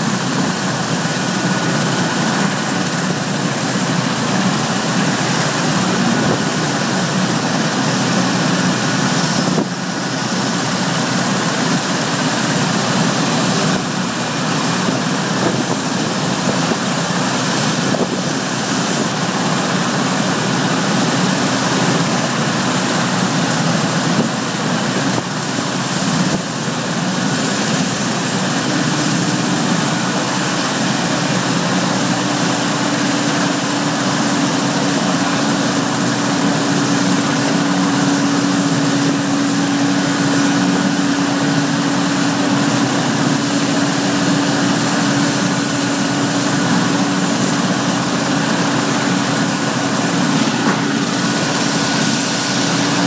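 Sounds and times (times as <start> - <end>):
helicopter turbine engine running: 0.0 - 53.0
steady droning tone: 0.0 - 53.0.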